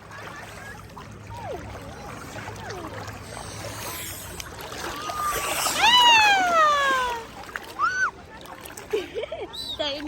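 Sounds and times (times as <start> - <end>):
low steady hum: 0.0 - 10.0
water washing in shallows: 0.0 - 10.0.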